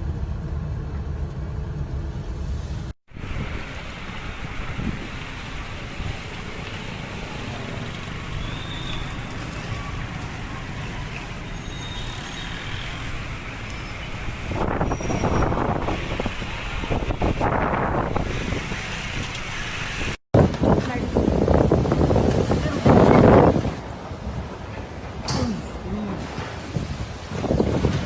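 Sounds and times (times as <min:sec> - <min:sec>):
road traffic rushing: 0:00.0 - 0:28.0
wind: 0:00.0 - 0:28.0.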